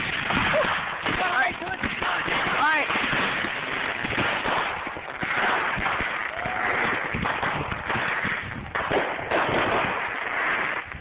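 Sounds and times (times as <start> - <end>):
firework bangs: 0.0 - 11.0
fireworks crackling and popping: 0.0 - 11.0.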